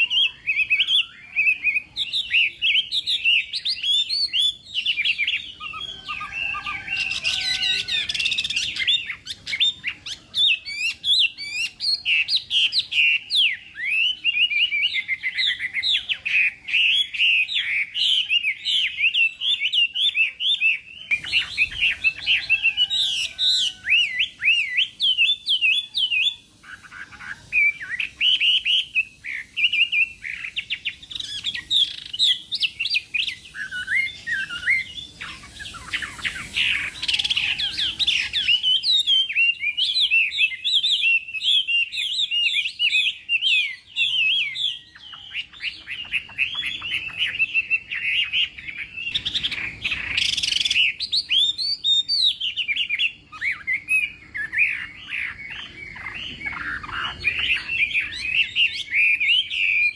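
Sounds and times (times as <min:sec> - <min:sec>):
songbird whistling varied phrases: 0:00.0 - 0:59.9.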